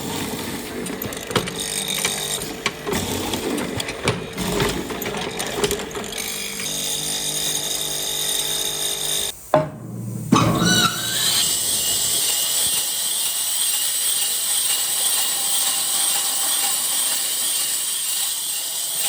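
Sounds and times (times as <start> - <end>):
woodworking power tool running: 0.0 - 9.3, 10.9 - 19.0.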